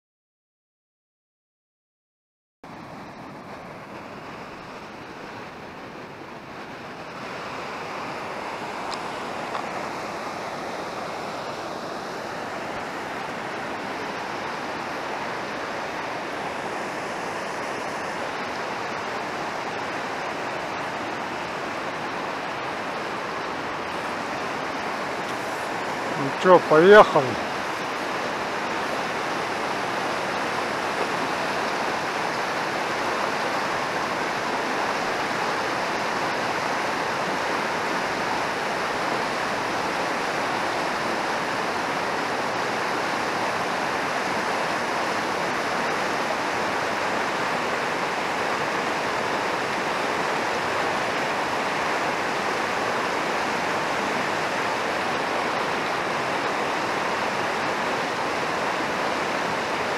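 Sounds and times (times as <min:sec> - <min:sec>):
river rushing over rapids: 0:02.7 - 0:59.9.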